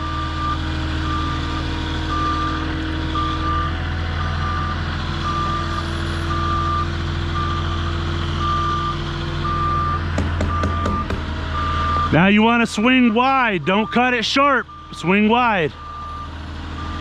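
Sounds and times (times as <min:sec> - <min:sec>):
forklift engine running: 0:00.0 - 0:17.0
reversing alarm beeping: 0:00.0 - 0:17.0.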